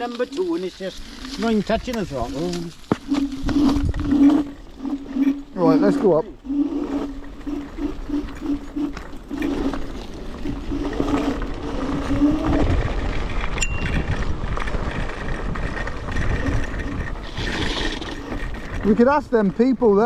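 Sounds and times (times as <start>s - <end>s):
tyre rumble: 0.0s - 20.0s
wind: 0.0s - 20.0s.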